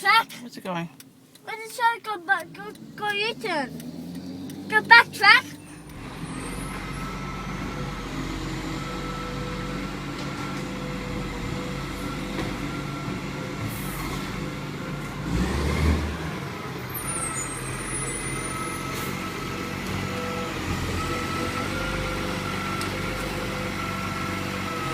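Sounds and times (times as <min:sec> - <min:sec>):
diesel truck engine running: 0:01.0 - 0:24.9.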